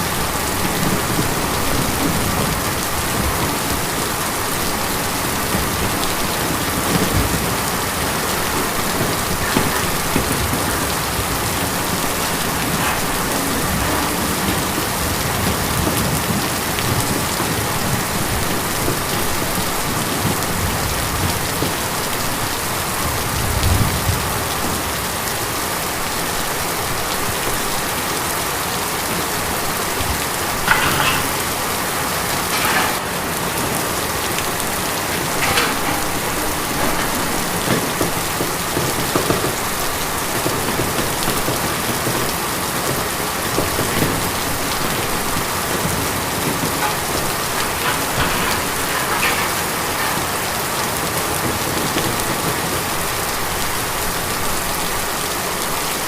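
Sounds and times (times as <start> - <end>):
rain pattering on a tin roof: 0.0 - 56.0.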